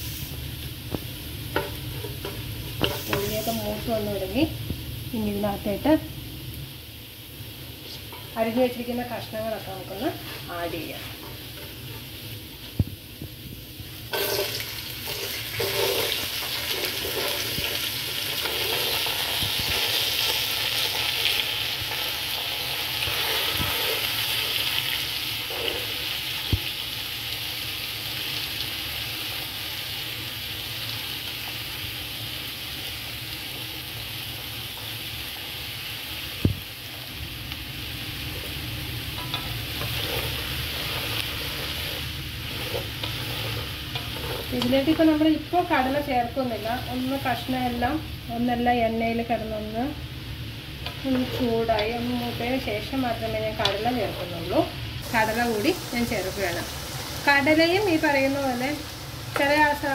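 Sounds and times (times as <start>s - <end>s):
vegetables sizzling in hot oil: 0.0s - 59.9s.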